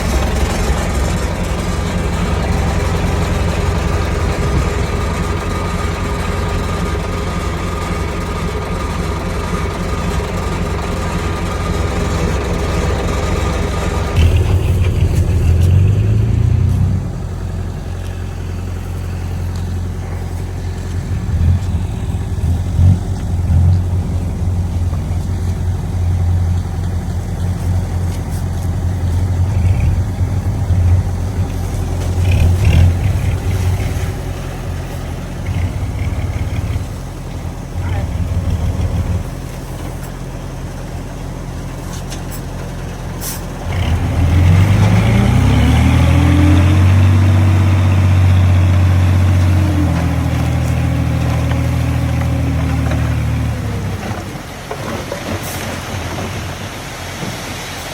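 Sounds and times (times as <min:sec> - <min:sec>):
heavy diesel engine droning: 0:00.0 - 0:57.9.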